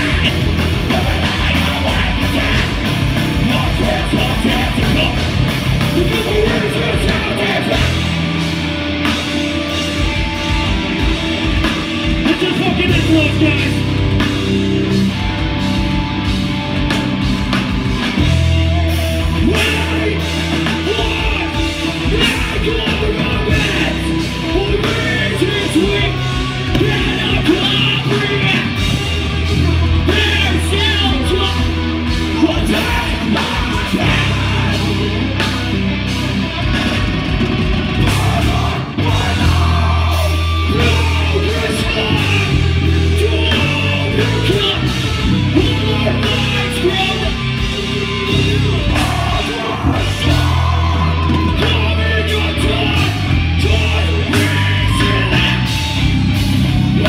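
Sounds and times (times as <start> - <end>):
vocalist shouting and singing: 0.0 - 8.4, 12.0 - 14.2, 19.1 - 36.1, 37.8 - 57.0
bass guitar: 0.0 - 57.0
distorted electric guitars: 0.0 - 57.0
drum kit: 0.0 - 57.0.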